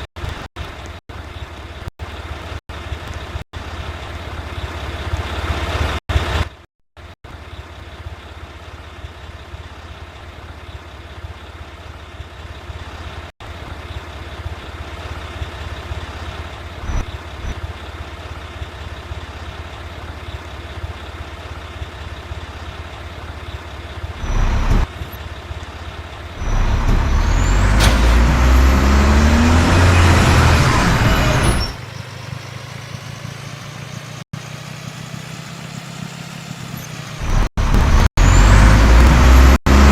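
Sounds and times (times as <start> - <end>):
garbage truck running: 0.1 - 39.9.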